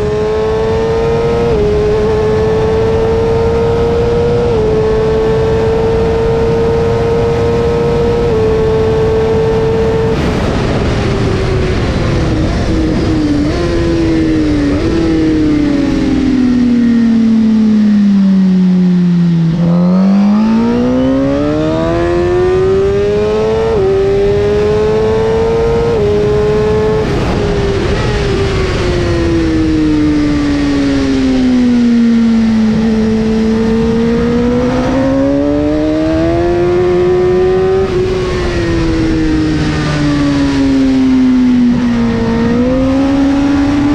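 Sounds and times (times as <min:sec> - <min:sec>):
motorcycle engine at high revs: 0:00.0 - 0:43.9.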